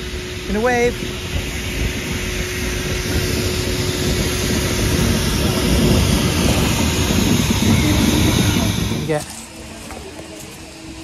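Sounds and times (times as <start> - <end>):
steam train rumbling past: 0.0 - 11.0.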